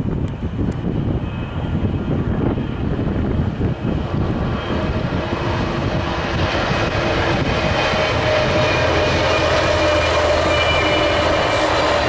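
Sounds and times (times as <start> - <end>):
diesel locomotive engine drone: 0.0 - 12.0
wind buffeting microphone: 0.0 - 12.0.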